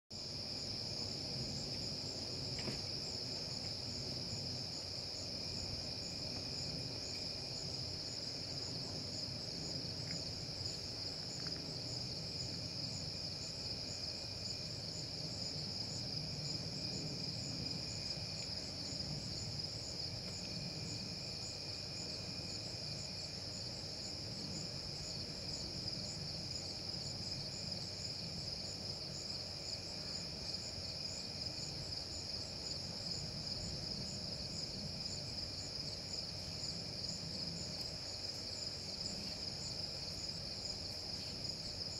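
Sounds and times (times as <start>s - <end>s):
faint insect trill: 0.1s - 41.9s
crickets trilling: 0.2s - 41.9s.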